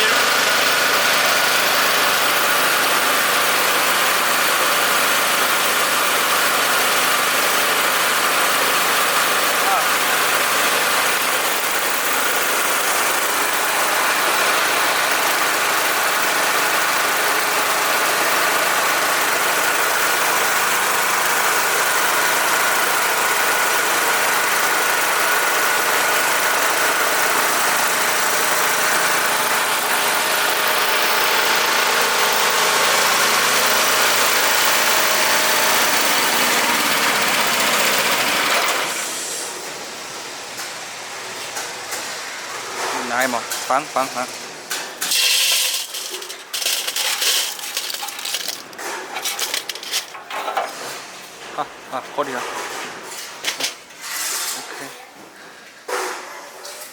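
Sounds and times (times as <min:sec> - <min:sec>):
rice milling machine whirring: 0:00.0 - 0:54.9.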